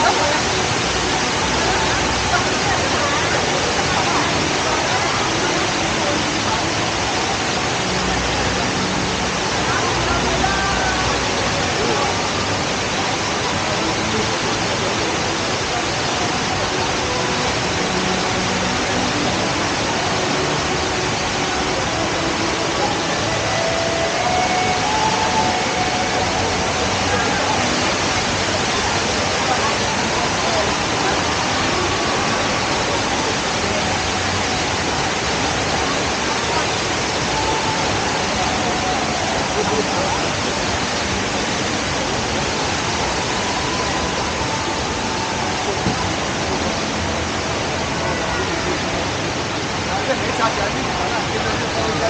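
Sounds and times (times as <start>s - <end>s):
indoor waterfall rushing: 0.0s - 52.0s.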